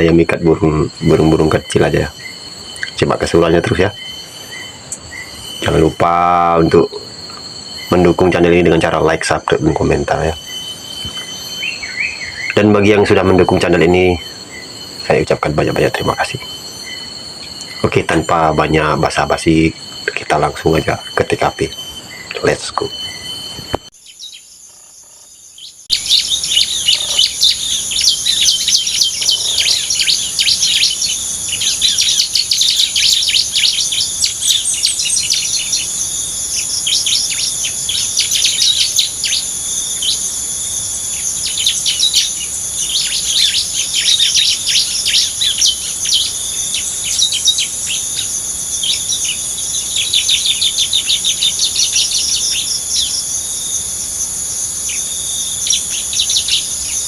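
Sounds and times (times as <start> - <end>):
insects droning: 0.0 - 57.0
small birds chirping: 0.0 - 57.0.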